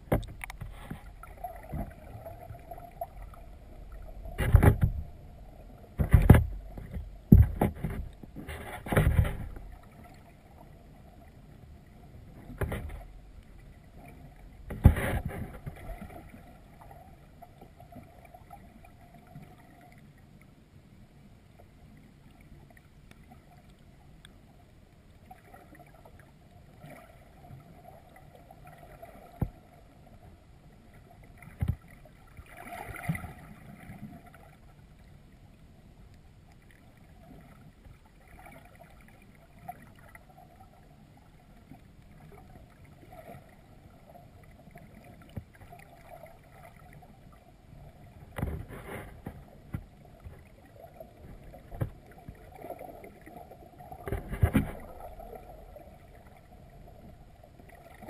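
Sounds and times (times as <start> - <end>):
underwater rumble of moving water: 0.0 - 58.0.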